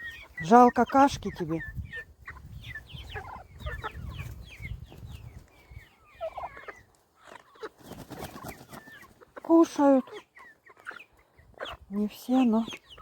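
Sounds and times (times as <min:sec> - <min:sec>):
young turkeys and chickens peeping: 0:00.0 - 0:13.0.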